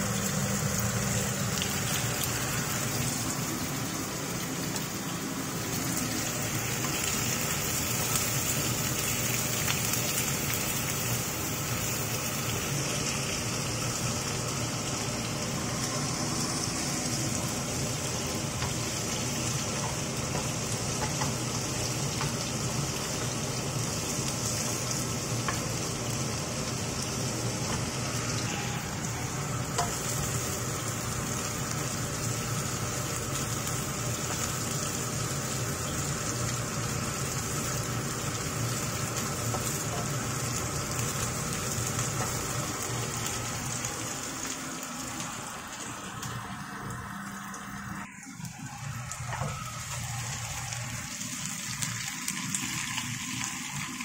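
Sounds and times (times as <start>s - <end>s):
pot at rolling boil: 0.0s - 54.0s
prawns sizzling in oil: 0.0s - 54.0s.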